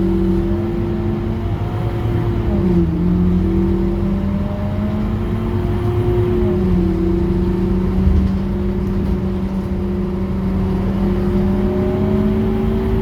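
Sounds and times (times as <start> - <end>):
bus engine whine and rumble: 0.0 - 13.0.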